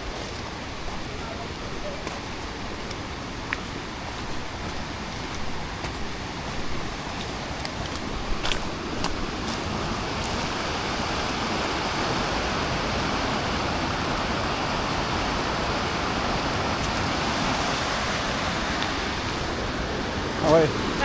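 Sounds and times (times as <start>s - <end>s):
river flowing over stones: 0.0s - 21.0s.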